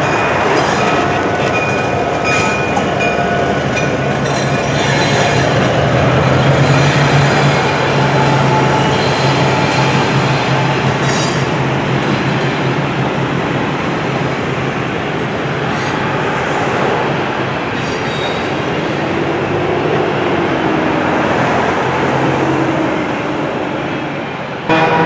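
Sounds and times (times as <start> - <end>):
freight train rumbling over bridge: 0.0 - 25.0.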